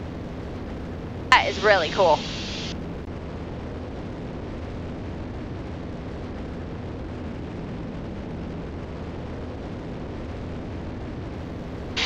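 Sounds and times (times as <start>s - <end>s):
aircraft engines droning in cabin: 0.0s - 12.0s.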